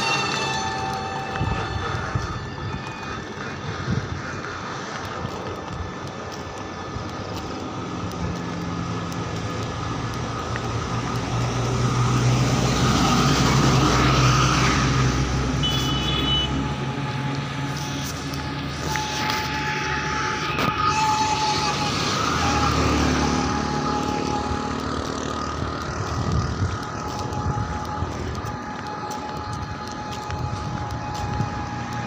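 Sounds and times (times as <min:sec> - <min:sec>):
heavy vehicle engine hum: 0:00.0 - 0:32.0
traffic noise: 0:00.0 - 0:32.0.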